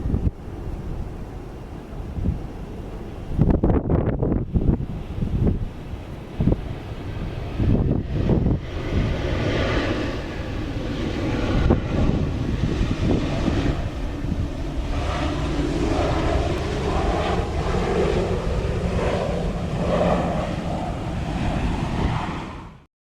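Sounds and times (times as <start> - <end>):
wind buffeting microphone: 0.0 - 22.8
airliner engines rumbling: 0.0 - 22.9.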